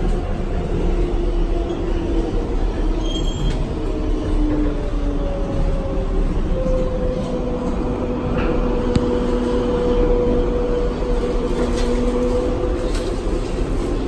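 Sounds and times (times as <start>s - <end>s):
subway wheels rumbling on rail: 0.0s - 14.0s.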